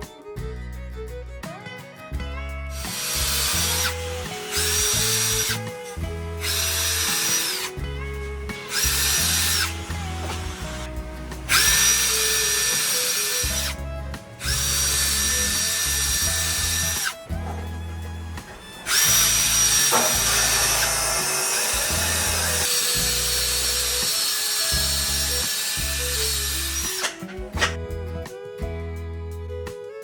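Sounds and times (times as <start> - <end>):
background music: 0.0 - 30.0
power tool motor whine: 2.8 - 27.8.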